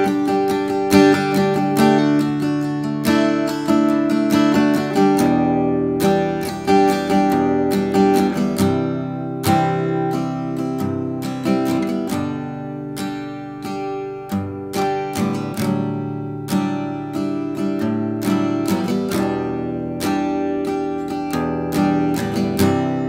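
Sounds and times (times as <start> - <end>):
strummed guitar chords: 0.0 - 23.0.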